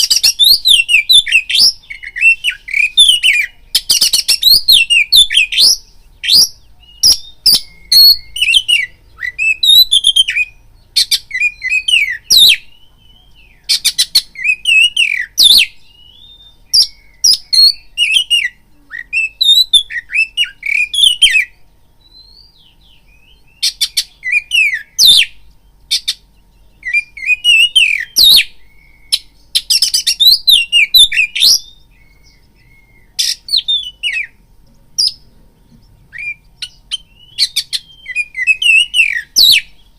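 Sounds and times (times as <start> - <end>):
bird singing whistles and rasps: 0.0 - 39.9.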